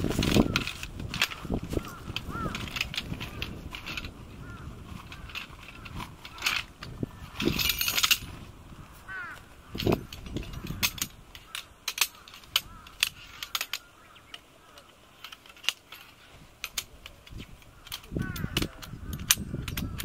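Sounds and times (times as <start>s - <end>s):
metal tent poles clicking: 0.0s - 20.0s.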